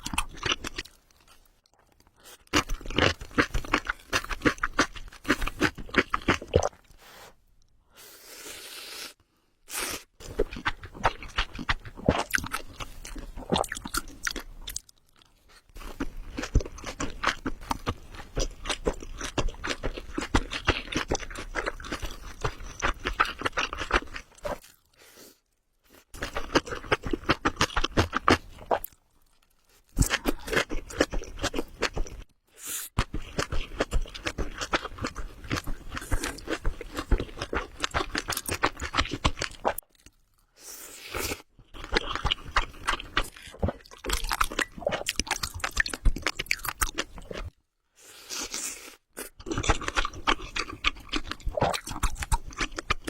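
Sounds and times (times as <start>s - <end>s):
person chewing crunchy food: 0.0s - 7.0s, 9.7s - 32.3s, 33.0s - 53.0s.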